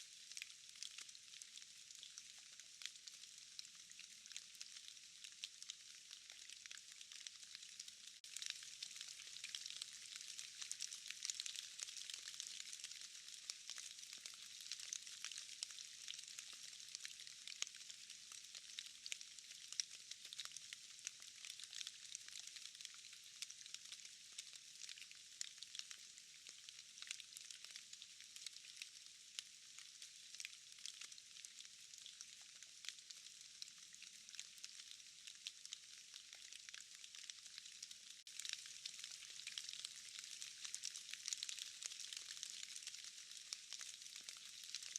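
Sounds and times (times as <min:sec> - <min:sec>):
raindrops dripping from trees: 0:00.0 - 0:44.9
steady faint rain: 0:00.0 - 0:44.9.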